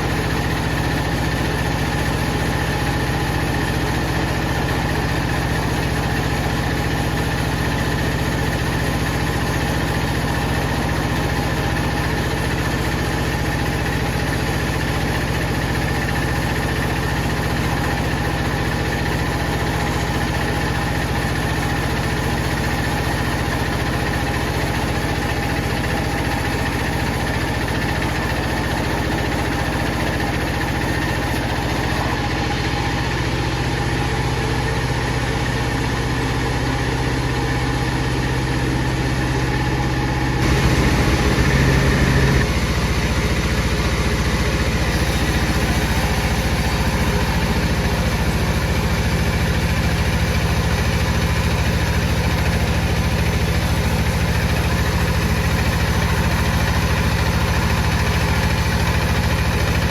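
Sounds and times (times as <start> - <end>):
power saw running: 0.0 - 59.9.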